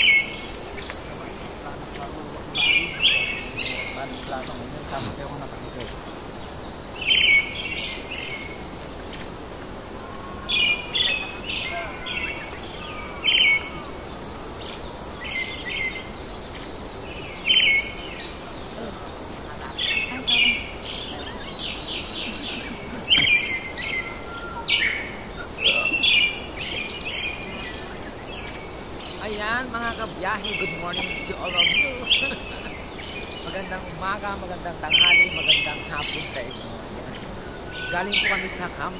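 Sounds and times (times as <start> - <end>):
bird chattering calls: 0.0 - 38.9
steady background hiss: 0.0 - 38.9.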